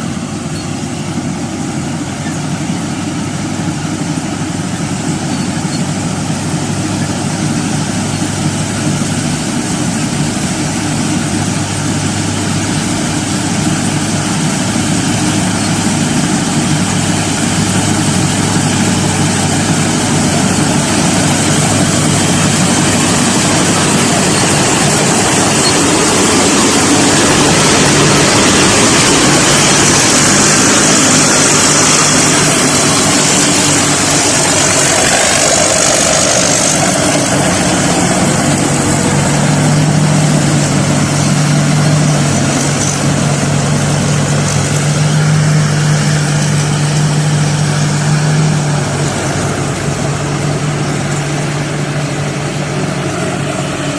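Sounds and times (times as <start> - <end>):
harvester engine running: 0.0 - 53.9.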